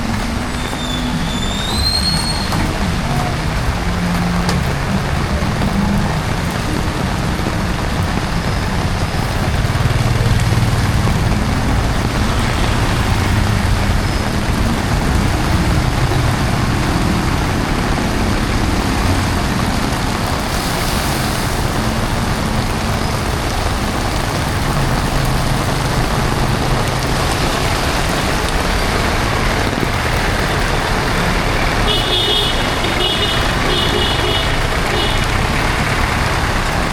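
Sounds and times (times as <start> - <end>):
heavy rain falling: 0.0 - 36.9
traffic passing on wet street: 0.0 - 36.9.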